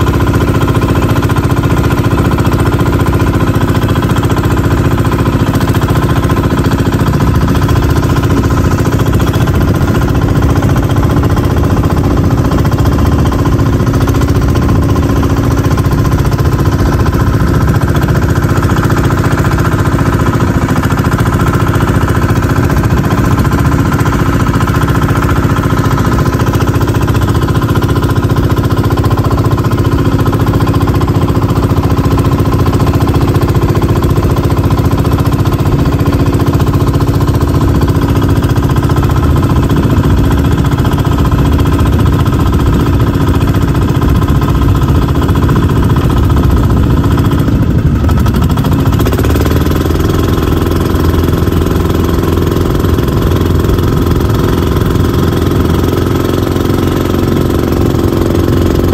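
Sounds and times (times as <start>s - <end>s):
boat engine running: 0.0s - 58.9s.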